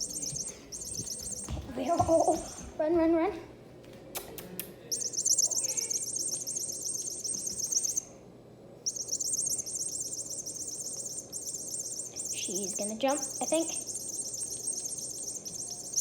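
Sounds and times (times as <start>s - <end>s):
warbling electronic chirp: 0.0s - 2.7s, 4.9s - 8.1s, 8.8s - 16.0s.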